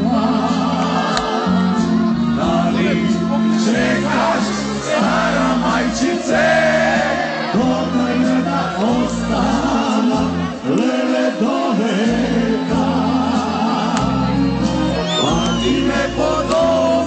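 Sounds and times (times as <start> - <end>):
steady bass line: 0.0 - 11.3, 11.9 - 17.0
live folk band playing: 0.0 - 17.0
man singing into microphone: 2.4 - 17.0.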